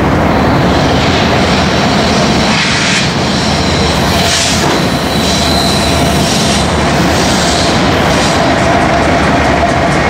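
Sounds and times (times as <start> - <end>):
diesel locomotive engines rumbling: 0.0 - 10.0.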